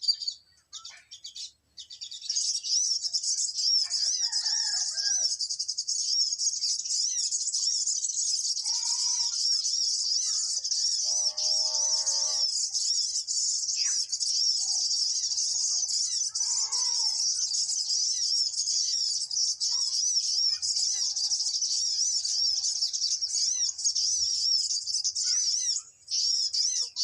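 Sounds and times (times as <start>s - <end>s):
faint calls of other birds: 0.0s - 27.0s
high-pitched bird chirps: 0.0s - 27.0s.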